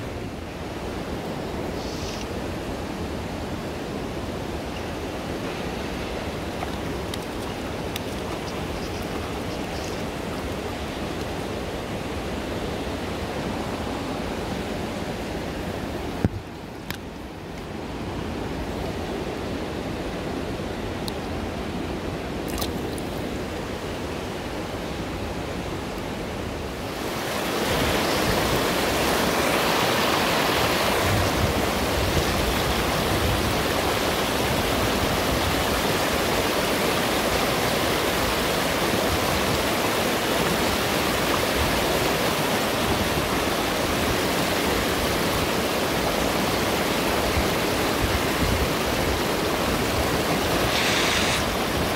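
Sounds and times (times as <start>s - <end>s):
river rushing over stones: 0.0s - 51.9s.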